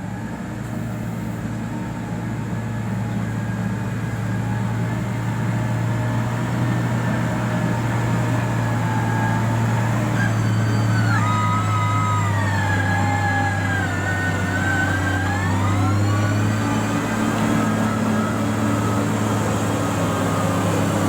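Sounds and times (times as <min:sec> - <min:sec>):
diesel engine running: 0:00.0 - 0:21.0
high wavering whine: 0:00.2 - 0:21.0.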